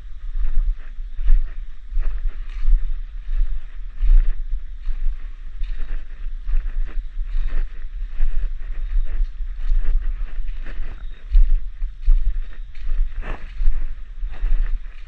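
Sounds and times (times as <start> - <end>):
cicada drone: 0.0 - 15.0
footsteps in undergrowth: 0.0 - 15.0
wind rumble on microphone: 0.0 - 15.0.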